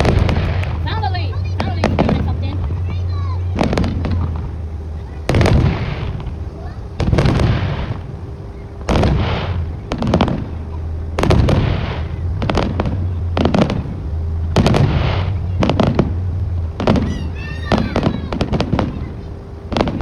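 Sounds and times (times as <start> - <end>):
fireworks banging: 0.0 - 20.0
fireworks crackling: 0.0 - 20.0.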